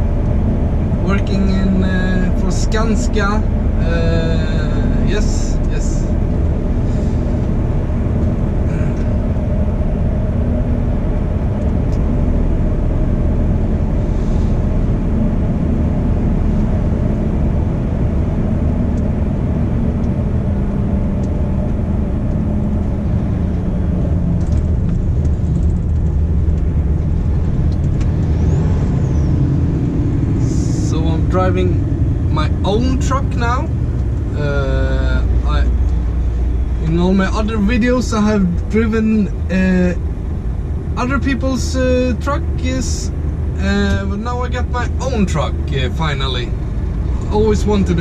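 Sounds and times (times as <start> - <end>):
diesel truck engine droning: 0.0 - 48.0.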